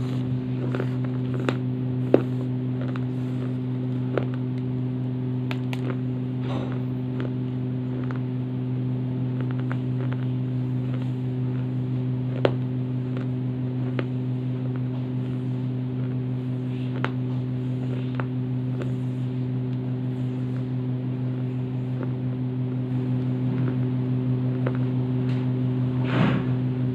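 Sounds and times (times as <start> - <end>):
low hum: 0.0 - 26.9.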